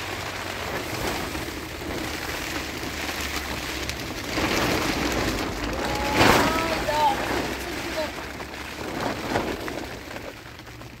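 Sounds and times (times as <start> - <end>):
heavy rain on tent fabric: 0.0 - 11.0.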